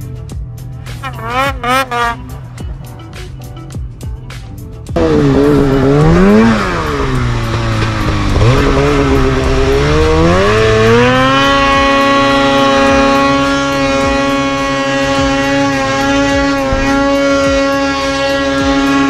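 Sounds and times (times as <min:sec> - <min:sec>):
snowmobile engine revving: 0:00.9 - 0:02.4, 0:05.0 - 0:19.0.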